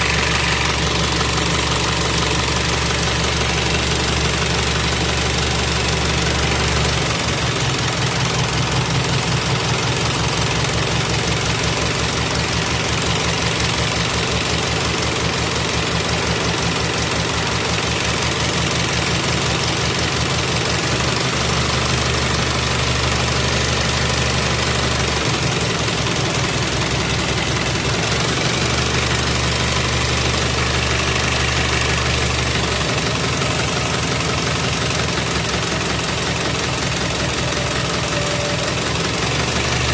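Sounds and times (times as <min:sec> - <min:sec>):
diesel engine running unevenly: 0:00.0 - 0:39.9.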